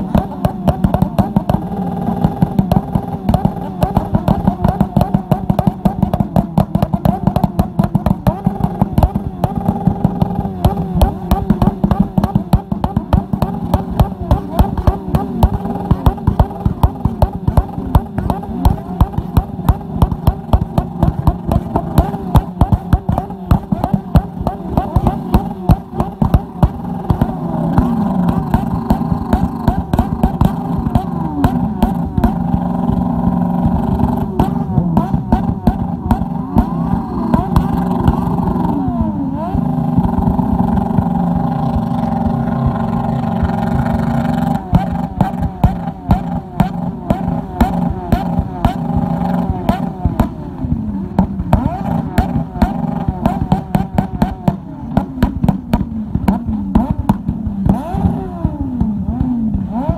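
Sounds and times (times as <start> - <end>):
exhaust pops and bangs: 0.0 - 59.9
motorcycle engine on rev limiter: 0.0 - 59.9.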